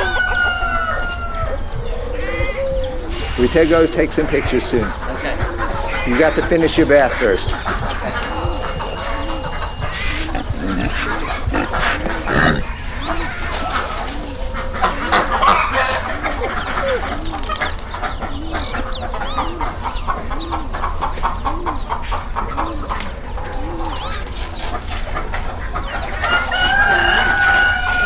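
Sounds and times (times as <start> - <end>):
birds chirping and squawking: 0.0 - 28.0
low rounded bird call: 0.0 - 28.0.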